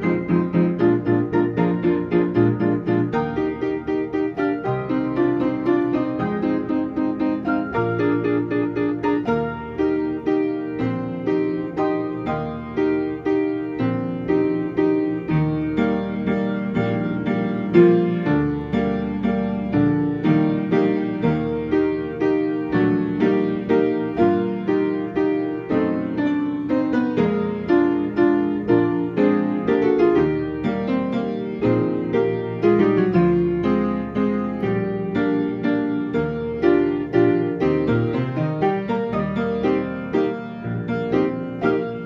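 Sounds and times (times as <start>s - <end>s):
player piano playing: 0.0s - 42.0s.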